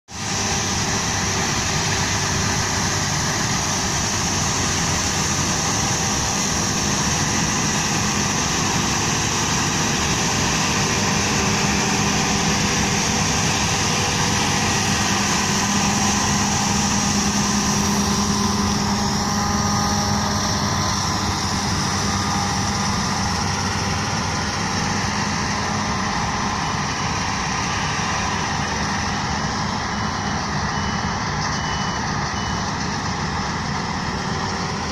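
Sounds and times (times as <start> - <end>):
combine harvester engine drone: 0.1 - 34.9.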